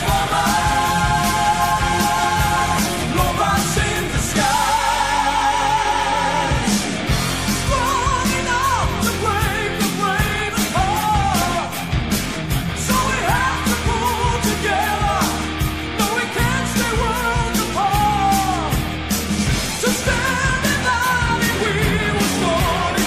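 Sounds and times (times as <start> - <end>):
rock song with vocals: 0.0 - 23.0
steady drum beat: 0.0 - 23.0.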